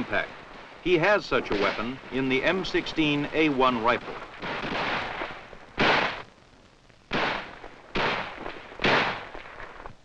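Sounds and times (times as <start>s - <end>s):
loud gunshots: 0.0s - 6.3s, 7.1s - 9.6s.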